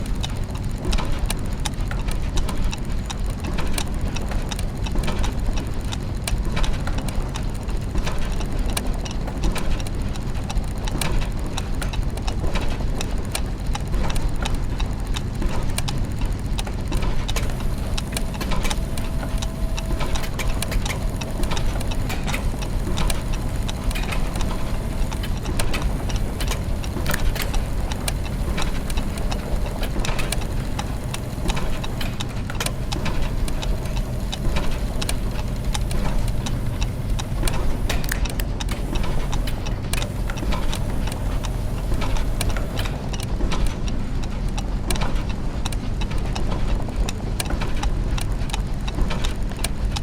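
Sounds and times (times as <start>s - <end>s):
gear machinery ticking and clicking: 0.0s - 50.0s
low mechanical hum: 0.0s - 50.0s.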